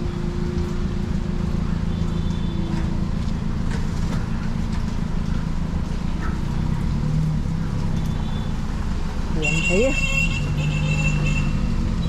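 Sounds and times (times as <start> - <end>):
low outdoor rumble: 0.0 - 10.7.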